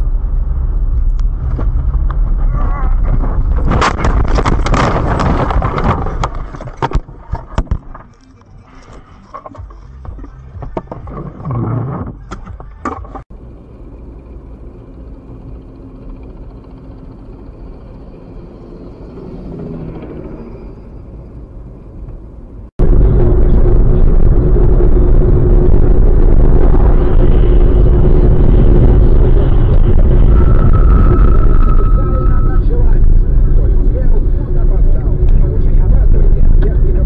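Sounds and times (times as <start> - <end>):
loud steady rumble with hum: 0.0 - 37.0
road and engine noise: 0.0 - 37.0.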